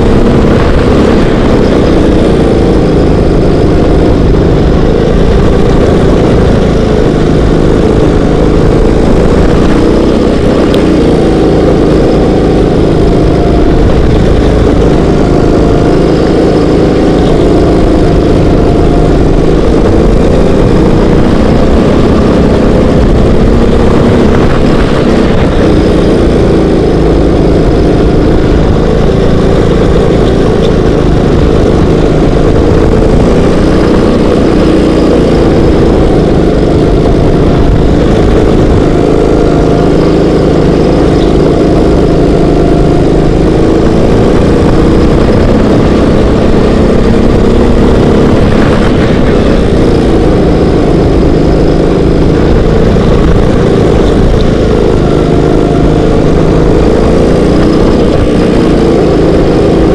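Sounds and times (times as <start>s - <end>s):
kart engine running: 0.0s - 59.9s.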